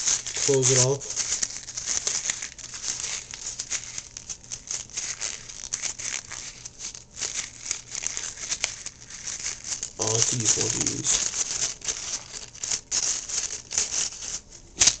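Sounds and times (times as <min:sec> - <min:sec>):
paper crinkling: 0:00.0 - 0:15.0.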